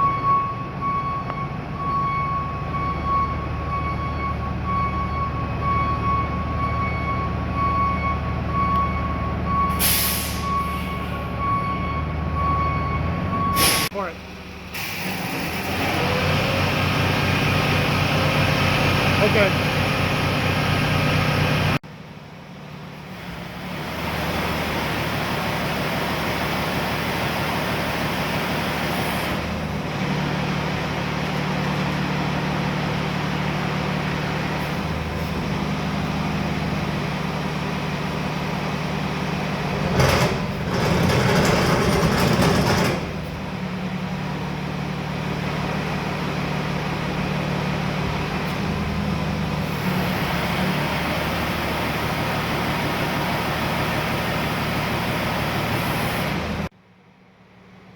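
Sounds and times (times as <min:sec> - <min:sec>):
diesel truck engine idling: 0:00.2 - 0:57.9.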